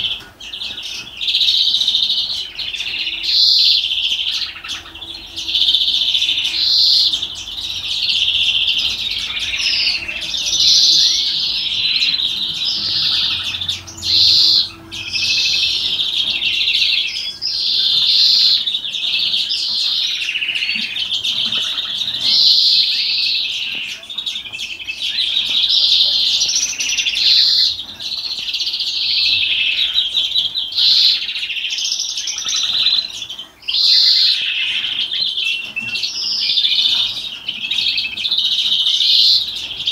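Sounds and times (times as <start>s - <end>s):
finch singing chirps and trills: 0.0s - 39.9s.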